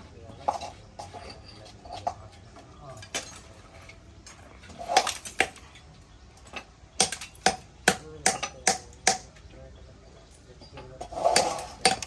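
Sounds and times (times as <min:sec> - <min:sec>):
metal clanking on metal: 0:00.3 - 0:09.4, 0:10.4 - 0:12.0.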